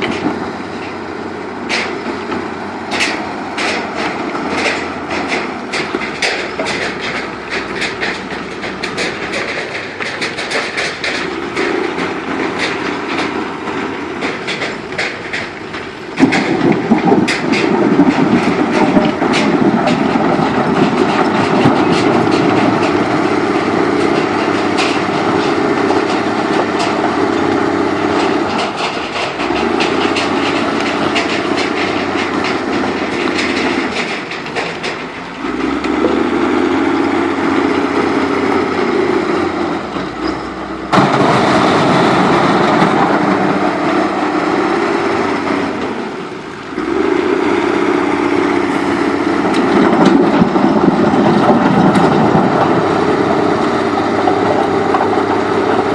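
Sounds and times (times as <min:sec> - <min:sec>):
stone and metal rattling: 0:00.0 - 0:46.6
diesel machinery running: 0:00.0 - 0:55.9.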